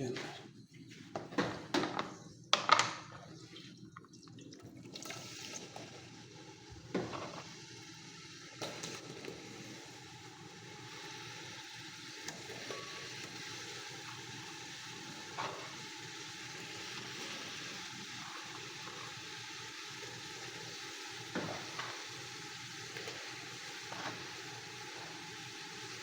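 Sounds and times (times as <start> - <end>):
pumpkin sizzling in hot oil: 5.0 - 26.0.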